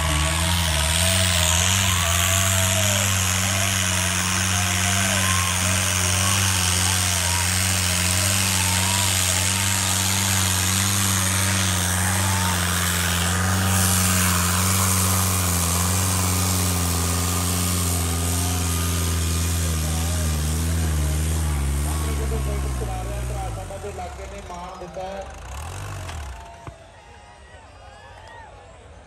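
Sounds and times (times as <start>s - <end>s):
tractor diesel engine under load: 0.0s - 26.8s
crowd voices calling out: 0.0s - 29.0s.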